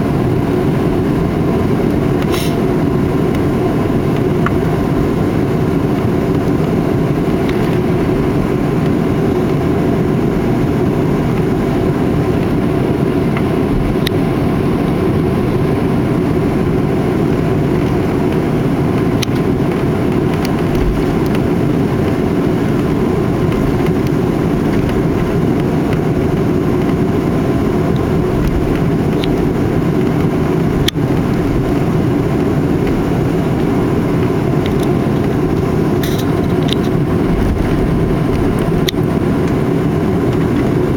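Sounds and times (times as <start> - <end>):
cabin air rumble: 0.0 - 40.9
jet engines idling: 0.0 - 40.9.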